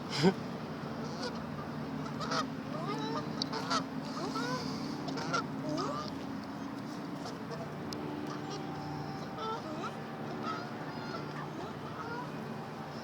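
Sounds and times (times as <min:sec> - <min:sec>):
steady low hum: 0:00.0 - 0:13.0
geese honking: 0:01.0 - 0:06.1, 0:07.2 - 0:13.0.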